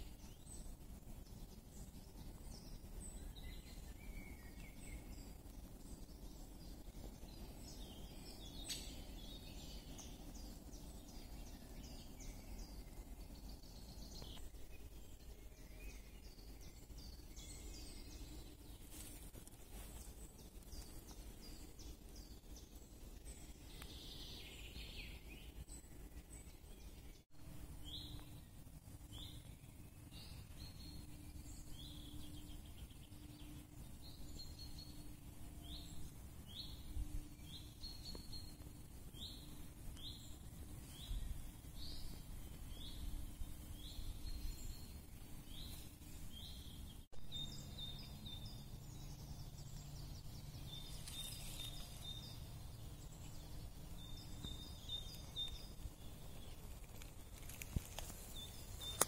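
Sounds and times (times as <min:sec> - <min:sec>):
bird chirping: 0:00.0 - 0:59.0
low steady hum: 0:00.0 - 0:59.0.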